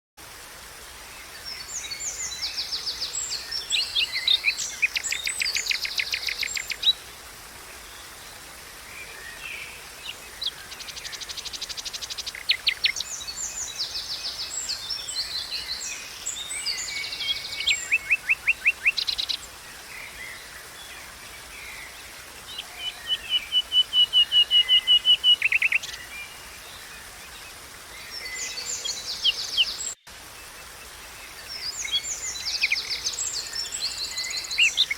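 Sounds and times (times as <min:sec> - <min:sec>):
faint hiss of running water: 0:00.2 - 0:34.9
songbirds singing: 0:01.1 - 0:34.9.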